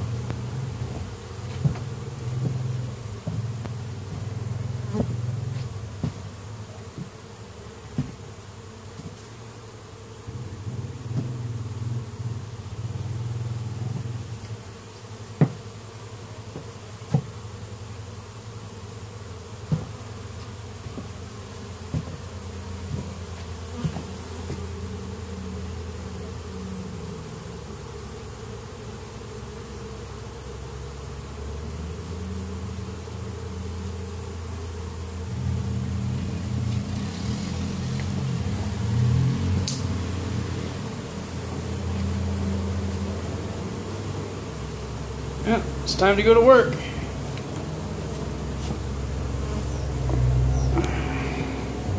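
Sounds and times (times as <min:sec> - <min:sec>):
honeybees buzzing: 0:00.0 - 0:51.9.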